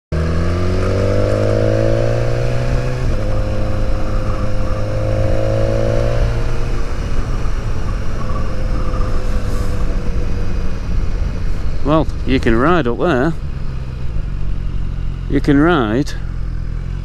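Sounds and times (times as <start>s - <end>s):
motorcycle engine accelerating: 0.1s - 17.0s
wind noise: 0.3s - 15.1s.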